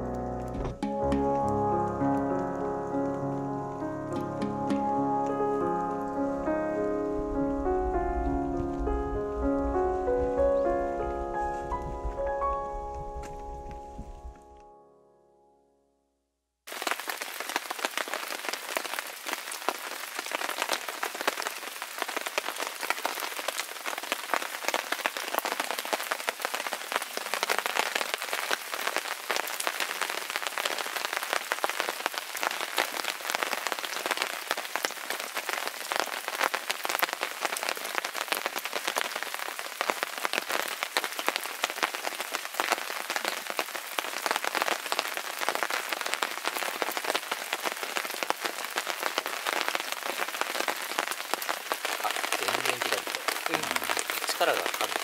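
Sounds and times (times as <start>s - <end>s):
steady rain falling: 0.0s - 14.6s, 16.7s - 55.0s.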